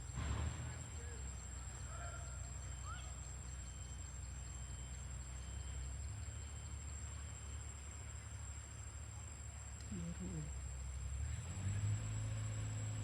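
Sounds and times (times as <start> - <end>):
insect chorus trilling: 0.1 - 10.8.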